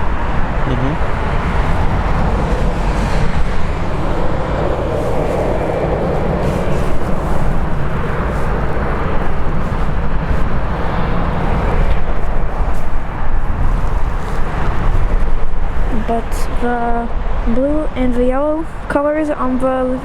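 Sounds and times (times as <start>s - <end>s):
jet engines roaring: 0.0s - 18.8s.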